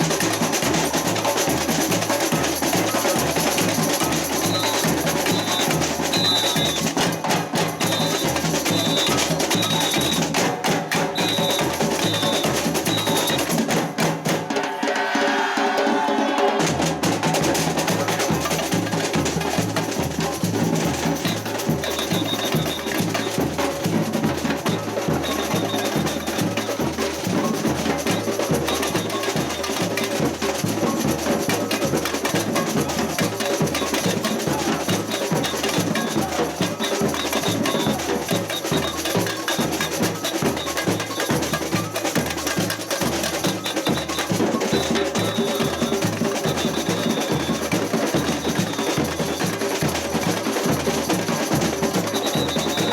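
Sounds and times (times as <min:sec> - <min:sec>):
higher drums and clacking percussion: 0:00.0 - 0:52.9.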